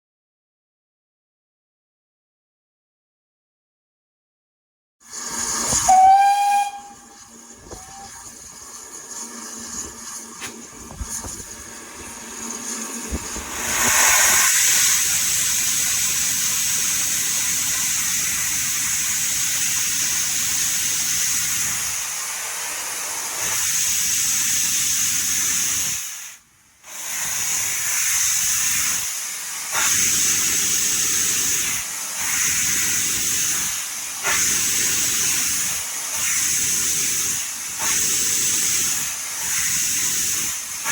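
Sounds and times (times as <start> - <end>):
steam locomotive hissing: 5.1 - 40.9.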